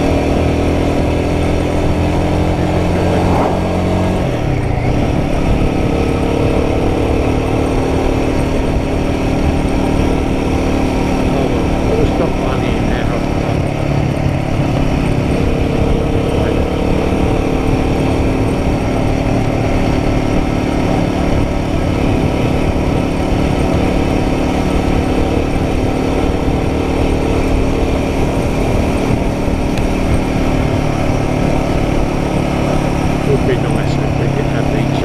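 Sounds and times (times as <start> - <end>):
motorcycle engine running steadily: 0.0 - 35.0
wind and road noise: 0.0 - 35.0.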